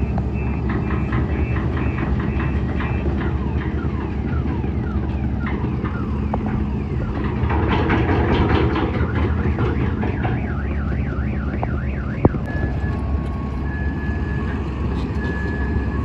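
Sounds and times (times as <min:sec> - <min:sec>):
electronic reversing alarm: 0:00.0 - 0:16.0
heavy diesel engine running: 0:00.0 - 0:16.0.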